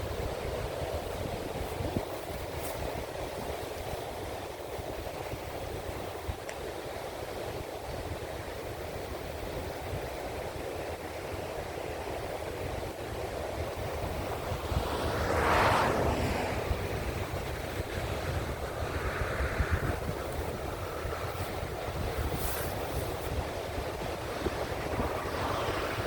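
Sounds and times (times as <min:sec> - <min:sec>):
ocean surf washing on shore: 0:00.0 - 0:26.0
wind rumbling on microphone: 0:00.0 - 0:26.0.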